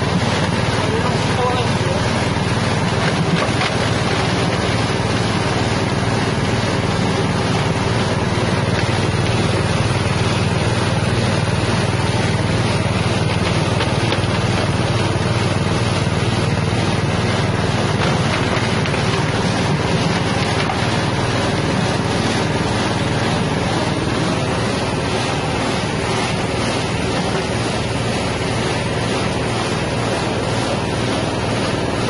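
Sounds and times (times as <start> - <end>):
engine running: 0.0 - 32.0
grinding mill under load: 0.0 - 32.0
ground material pouring out: 0.0 - 32.0.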